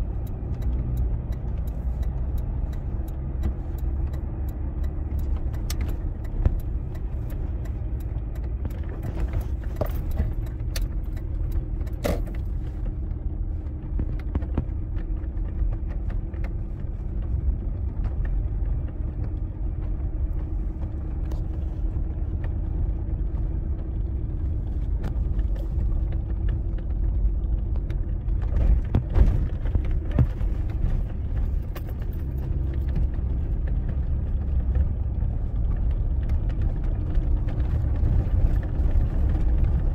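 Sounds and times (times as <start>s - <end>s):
car engine and tyre rumble: 0.0s - 39.9s
light rattles and clicks: 0.0s - 39.9s.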